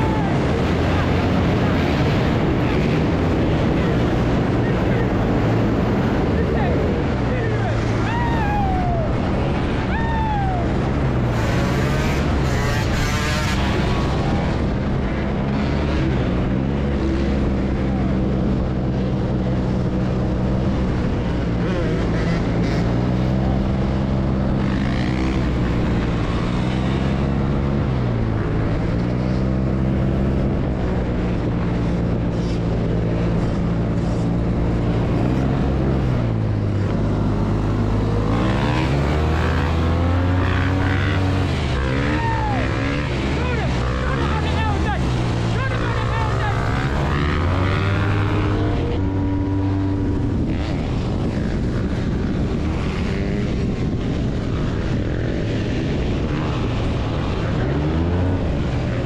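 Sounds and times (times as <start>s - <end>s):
motorbike engines running: 0.0s - 59.0s
rush of noise: 0.0s - 59.0s.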